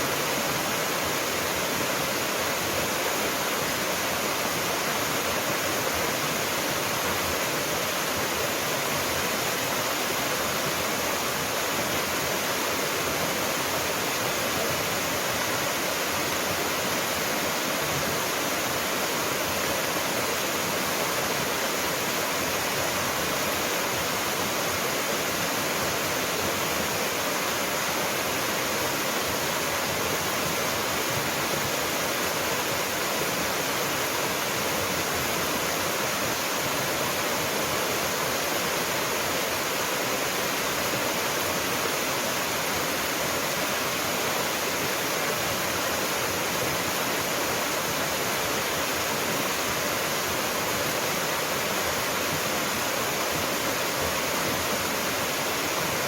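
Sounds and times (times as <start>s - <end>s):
waterfall splashing: 0.0s - 56.0s.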